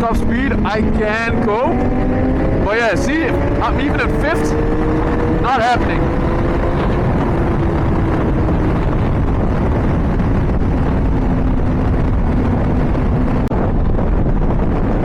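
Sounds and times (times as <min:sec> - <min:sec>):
motorcycle engine at high revs: 0:00.0 - 0:13.4
wind rush: 0:00.0 - 0:15.0.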